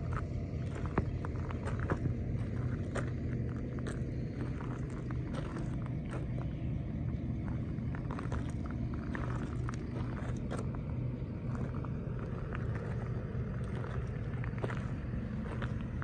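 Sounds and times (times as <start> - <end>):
footsteps on gravel: 0.0 - 16.0
low engine hum: 0.0 - 16.0.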